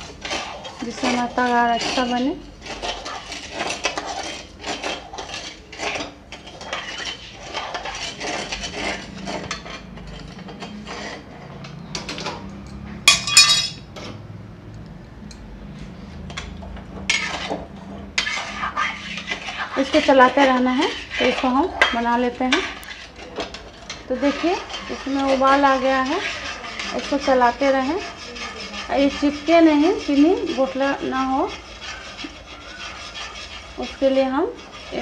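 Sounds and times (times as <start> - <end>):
metal ladle scraping a pan: 0.0 - 12.4, 16.3 - 35.0.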